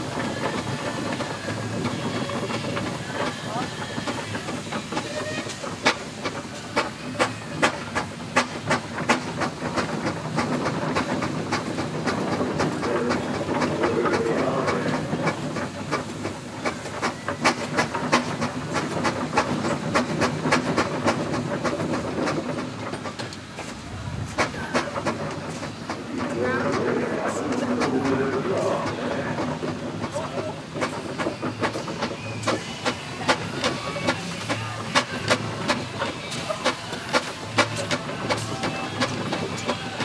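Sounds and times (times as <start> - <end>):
rush of steam: 0.0 - 40.0.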